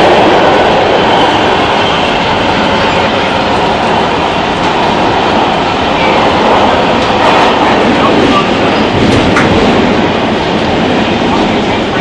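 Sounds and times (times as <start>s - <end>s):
subway car wheels rumbling: 0.0s - 12.0s.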